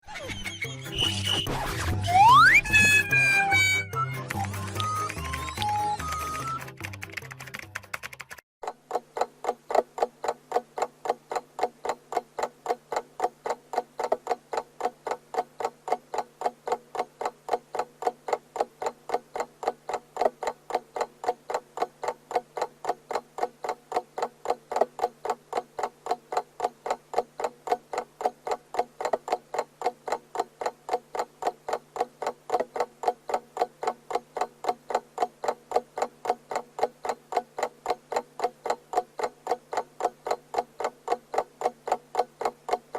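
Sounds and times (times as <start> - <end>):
alarm clock ticking fast: 2.1 - 6.7, 8.1 - 42.9.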